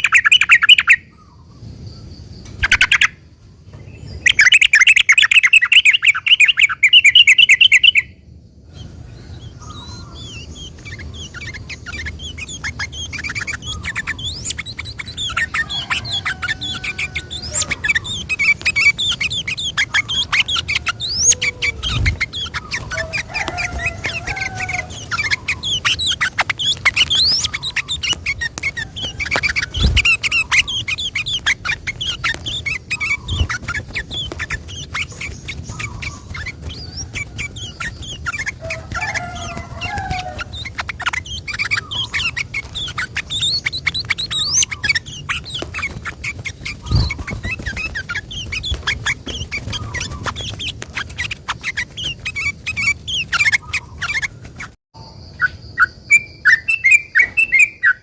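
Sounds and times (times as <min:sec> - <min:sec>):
bird singing chattering phrases: 0:00.0 - 0:03.2, 0:03.9 - 0:08.2, 0:09.2 - 0:58.0.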